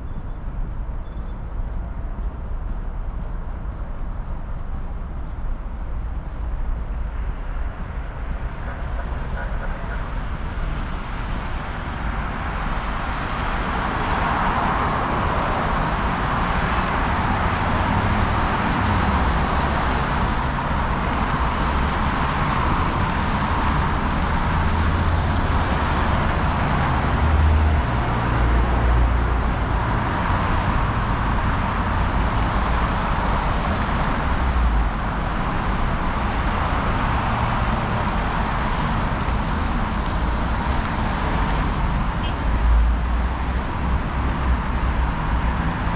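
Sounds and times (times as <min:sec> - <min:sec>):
city street traffic: 0:00.0 - 0:45.9.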